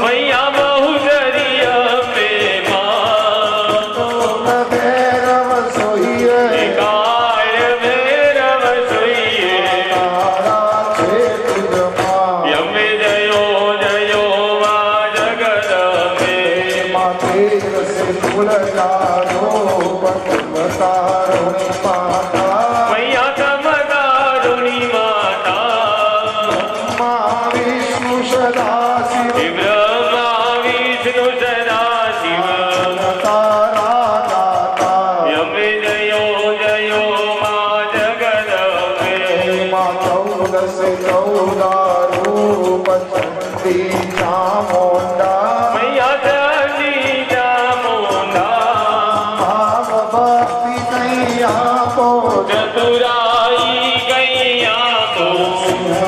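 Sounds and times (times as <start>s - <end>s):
steady percussion beat: 0.0s - 56.0s
sung melody: 0.0s - 56.0s.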